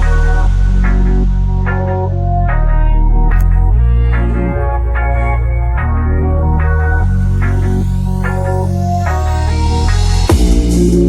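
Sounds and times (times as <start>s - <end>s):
electronic music with synthesizer: 0.0s - 11.0s.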